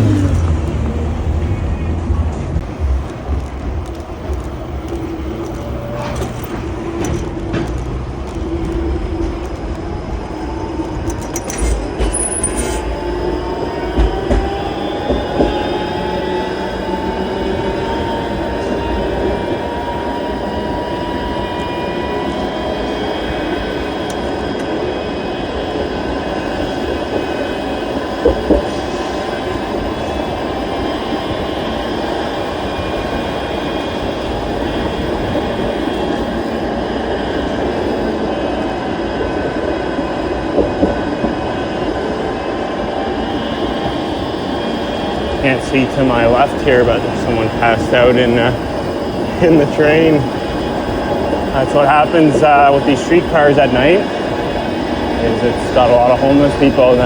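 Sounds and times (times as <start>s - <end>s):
streetcar rumbling with rising whine: 0.0s - 57.0s.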